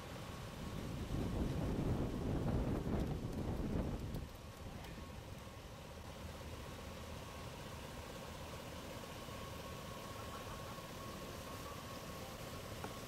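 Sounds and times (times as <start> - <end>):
faint outdoor rumble: 0.0 - 13.0.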